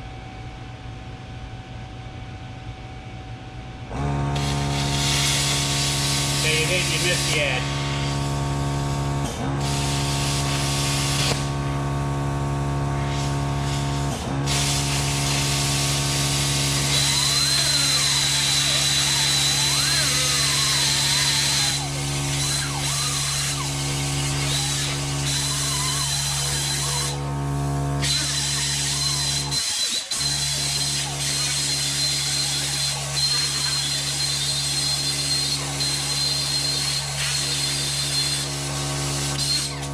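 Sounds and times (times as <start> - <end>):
plasma cutter electrical hum: 3.9 - 39.9.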